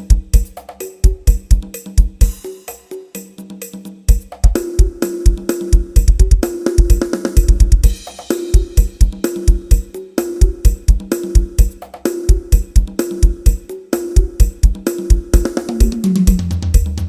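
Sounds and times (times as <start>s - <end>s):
drum kit playing: 0.0s - 17.0s.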